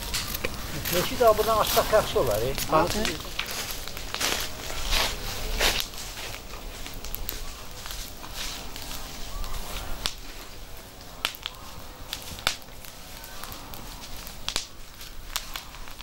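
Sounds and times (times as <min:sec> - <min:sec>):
dry wood snapping: 0:00.0 - 0:16.0
low outdoor hiss: 0:00.0 - 0:16.0.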